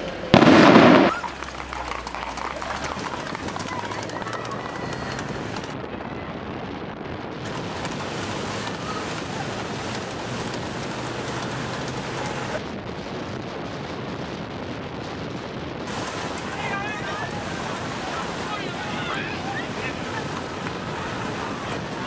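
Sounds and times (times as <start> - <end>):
falling rain: 0.0 - 6.3, 7.4 - 12.6, 15.8 - 22.0
wind buffeting microphone: 0.3 - 22.0.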